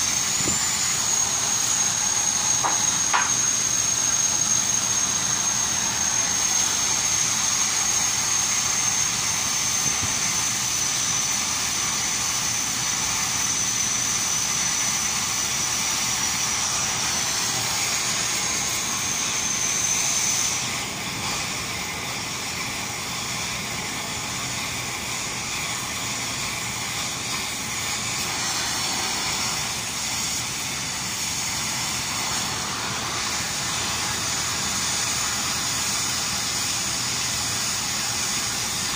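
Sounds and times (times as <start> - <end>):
thin high whine: 0.0 - 38.9
welding arc frying hiss: 0.0 - 38.9.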